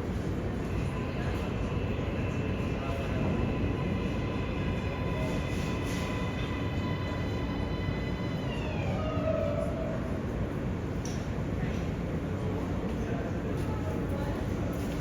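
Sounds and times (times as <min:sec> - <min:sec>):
subway train running: 0:00.0 - 0:15.0.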